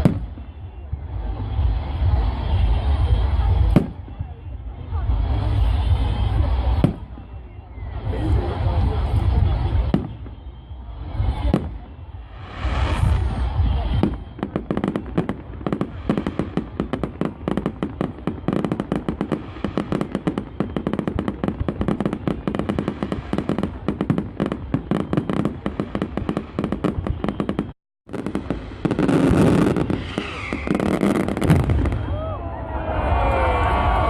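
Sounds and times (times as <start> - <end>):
fireworks bangs and crackling: 0.0 - 34.0.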